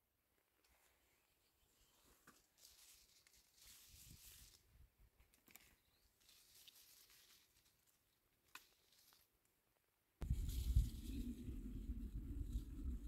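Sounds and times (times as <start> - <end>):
leaves and twigs rustling: 0.6 - 9.5, 10.2 - 12.7.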